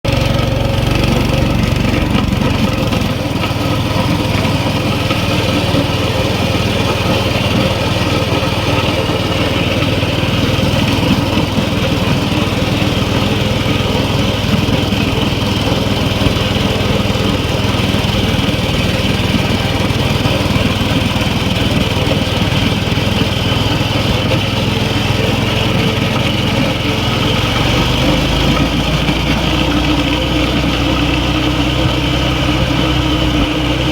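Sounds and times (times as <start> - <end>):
small gasoline engine running: 0.0 - 33.9.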